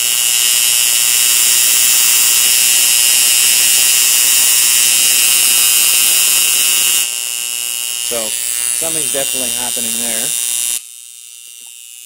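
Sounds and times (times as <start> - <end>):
electrical arc buzzing: 0.0 - 12.0.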